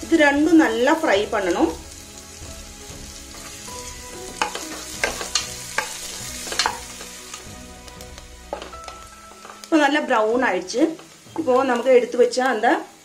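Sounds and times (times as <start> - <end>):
shallots sizzling in hot oil: 0.0 - 13.0.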